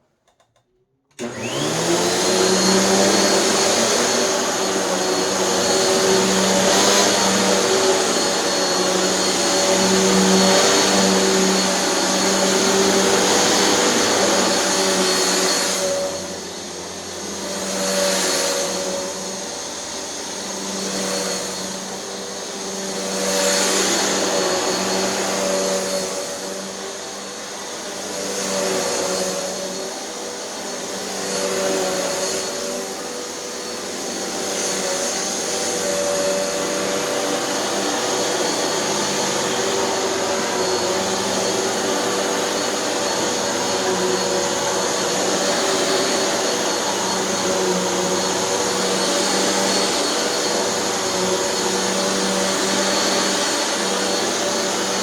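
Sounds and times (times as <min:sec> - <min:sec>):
vacuum cleaner motor hum: 0:01.1 - 0:55.0.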